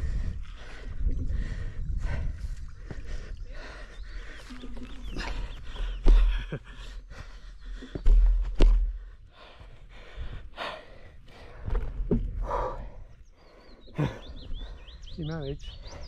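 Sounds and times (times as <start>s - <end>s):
loud breaths: 0.0s - 15.1s
wind buffeting microphone: 0.0s - 16.0s.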